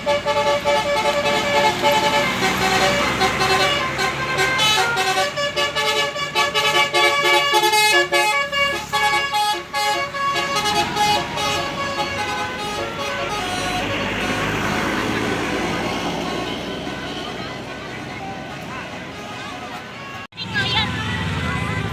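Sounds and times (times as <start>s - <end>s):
bus air horn melody: 0.0s - 21.4s
road traffic noise: 0.0s - 21.9s.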